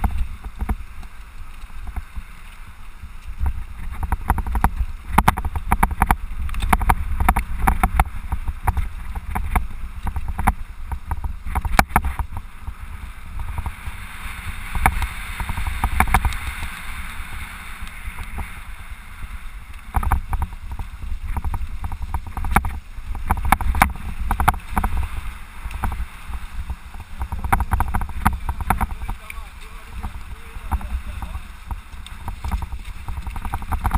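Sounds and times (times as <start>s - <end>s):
bike rattling over bumps: 0.0s - 33.9s
wind rumble on microphone: 0.0s - 33.9s.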